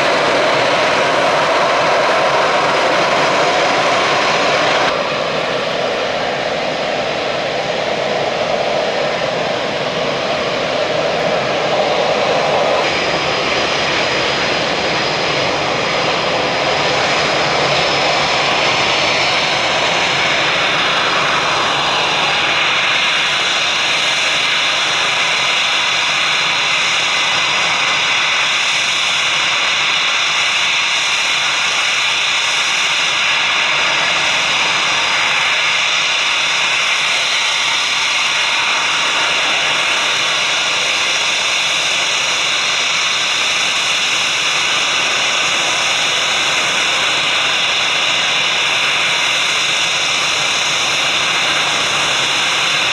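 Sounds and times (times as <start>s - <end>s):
high jet whine: 0.0s - 52.9s
jet engines running: 0.0s - 52.9s.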